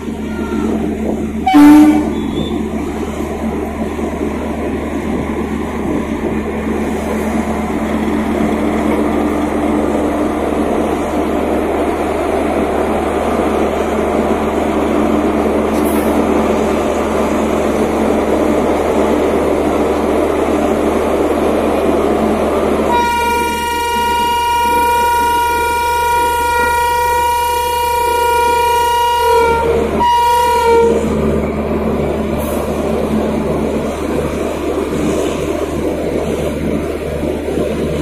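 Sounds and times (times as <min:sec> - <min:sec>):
electric locomotive hum and rush: 0:00.0 - 0:38.0.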